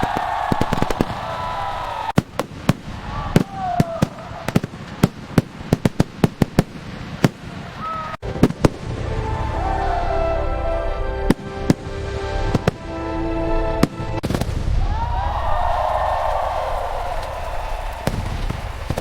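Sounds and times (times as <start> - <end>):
fireworks sharp bangs: 0.0 - 9.5, 11.3 - 12.8, 13.8 - 19.0.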